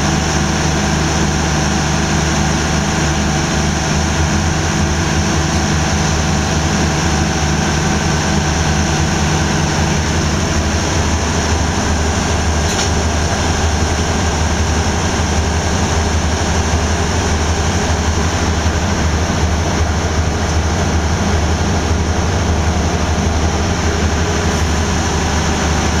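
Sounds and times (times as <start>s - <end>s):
diesel locomotive engine droning: 0.0s - 26.0s.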